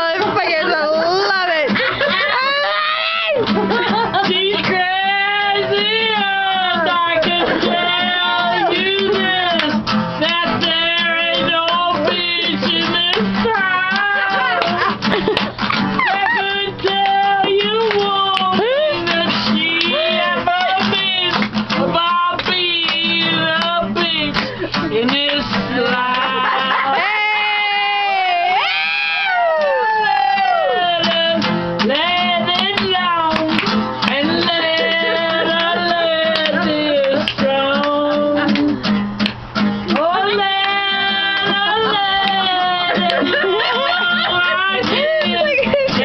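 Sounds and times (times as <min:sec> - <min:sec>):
strummed guitar: 0:00.0 - 0:46.0
person singing: 0:01.9 - 0:15.4, 0:16.0 - 0:39.0, 0:39.9 - 0:46.0.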